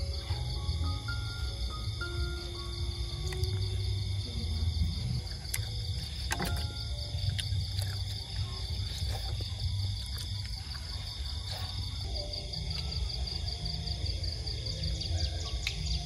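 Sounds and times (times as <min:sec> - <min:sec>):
low rumble: 0:00.0 - 0:16.0
night insects chorus: 0:00.0 - 0:16.0.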